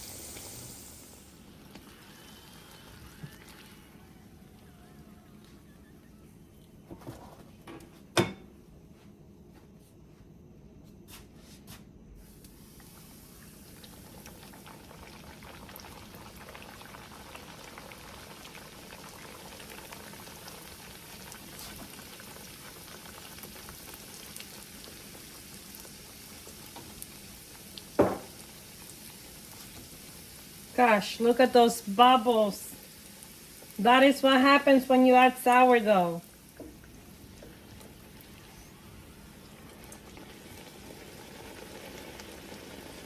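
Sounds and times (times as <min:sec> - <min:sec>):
dough sizzling in hot fat: 0:00.0 - 0:05.8, 0:12.2 - 0:43.0.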